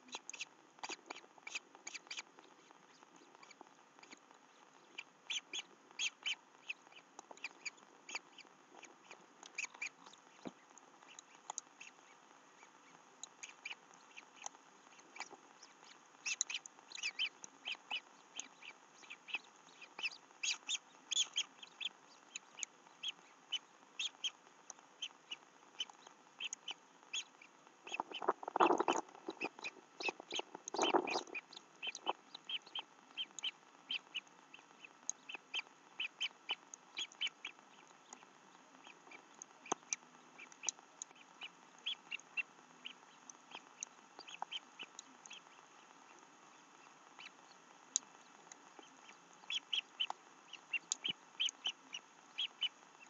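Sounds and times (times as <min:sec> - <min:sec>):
birds chirping: 0:02.9 - 0:24.4, 0:25.0 - 0:52.8.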